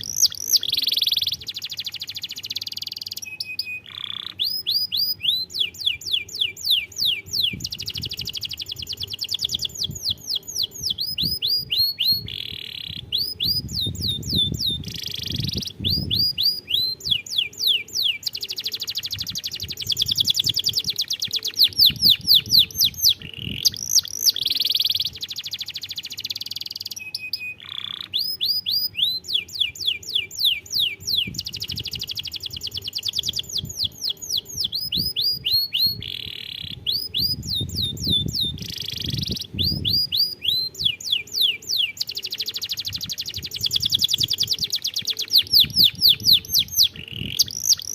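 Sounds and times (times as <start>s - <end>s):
canary singing: 0.0s - 47.9s.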